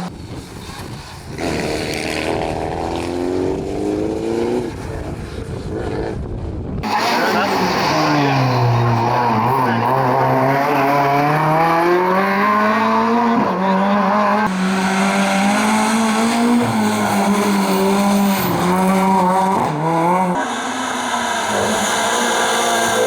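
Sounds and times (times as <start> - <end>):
rally car engine accelerating: 0.0 - 23.0.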